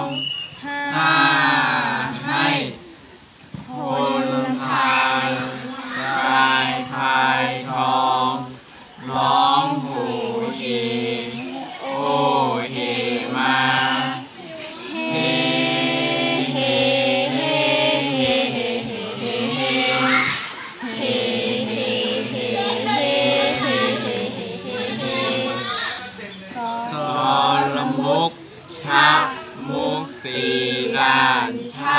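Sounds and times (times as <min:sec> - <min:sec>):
group chanting a song unaccompanied: 0:00.0 - 0:31.9.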